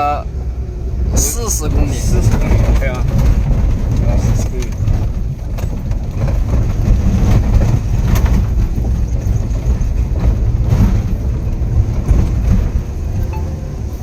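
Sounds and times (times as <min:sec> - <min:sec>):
vehicle engine and tyre rumble: 0:00.0 - 0:14.0
knocks and rattles: 0:01.2 - 0:14.0.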